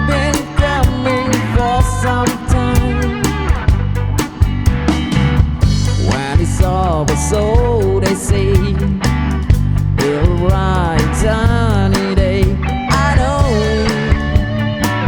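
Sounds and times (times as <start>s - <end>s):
bass guitar: 0.0s - 15.0s
electric guitar lead with bends: 0.0s - 15.0s
steady drum beat: 0.0s - 15.0s.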